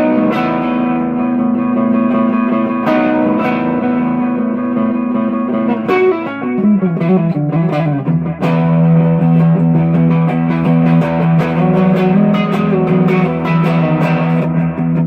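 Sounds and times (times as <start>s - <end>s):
electric guitar notes: 0.0s - 15.0s.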